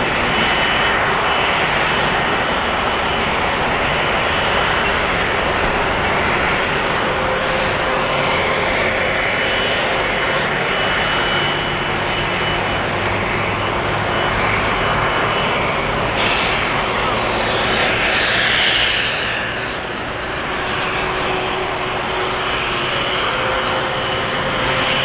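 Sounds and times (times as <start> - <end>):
jet engines idling: 0.0 - 25.0.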